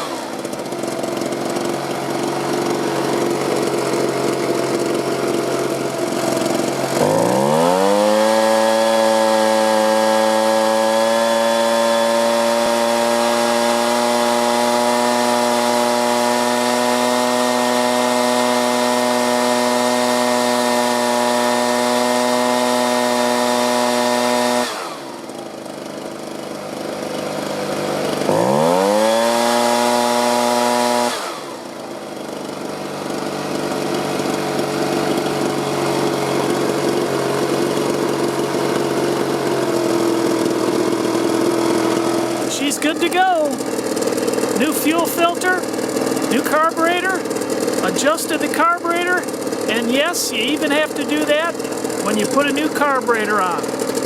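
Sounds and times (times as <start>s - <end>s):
leaf blower engine revving: 0.0s - 54.0s.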